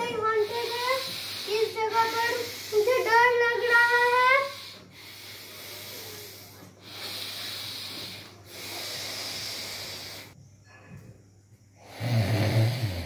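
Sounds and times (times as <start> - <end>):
heavy hissing breaths: 0.0 - 11.1, 11.7 - 13.0.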